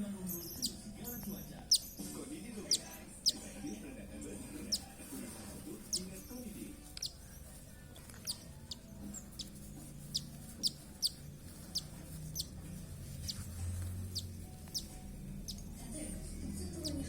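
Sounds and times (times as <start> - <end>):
parrot chicks squeaking: 0.1 - 15.8, 16.6 - 17.0.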